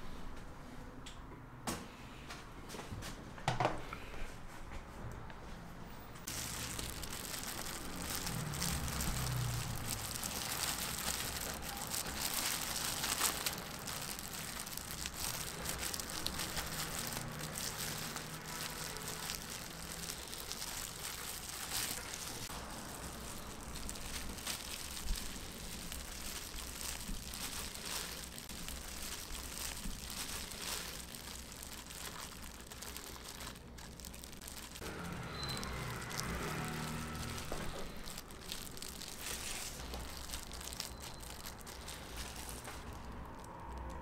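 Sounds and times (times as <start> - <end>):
crinkling and rustling handling: 6.2 - 44.0.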